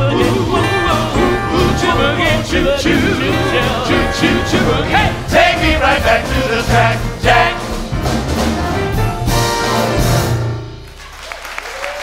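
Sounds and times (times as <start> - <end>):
jazz brass band music: 0.0 - 11.0.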